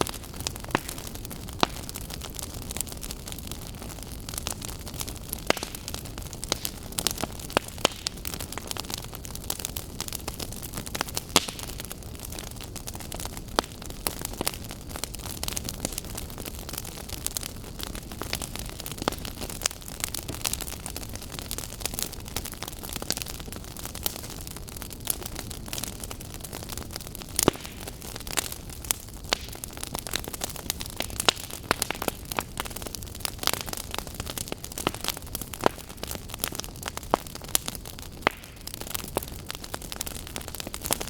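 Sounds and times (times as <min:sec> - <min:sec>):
firewood crackling and popping: 0:00.0 - 0:41.0.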